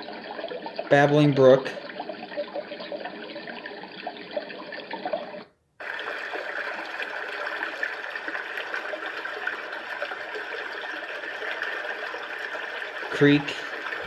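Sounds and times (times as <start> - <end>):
brighter running water track: 0.0 - 14.0
recorded babbling brook: 0.0 - 14.0.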